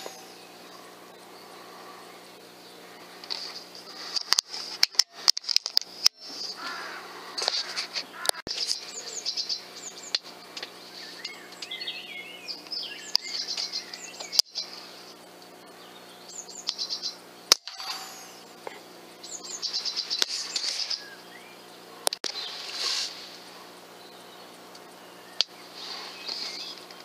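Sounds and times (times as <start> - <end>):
songbirds singing and chirping: 0.0 - 27.0.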